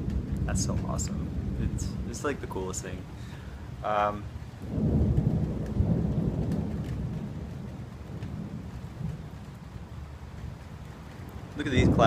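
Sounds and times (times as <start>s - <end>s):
rain falling: 0.0s - 12.0s
rolling thunder: 0.0s - 12.0s.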